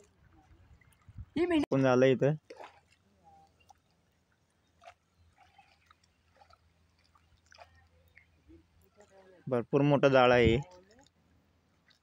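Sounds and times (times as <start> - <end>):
faint water sloshing from wading: 0.0 - 12.0.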